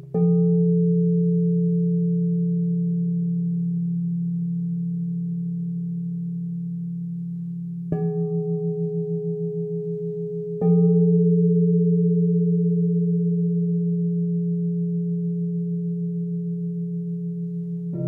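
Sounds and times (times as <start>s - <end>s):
bowl struck with a mallet: 0.0s - 18.0s
crystal singing bowls ringing: 0.0s - 18.0s.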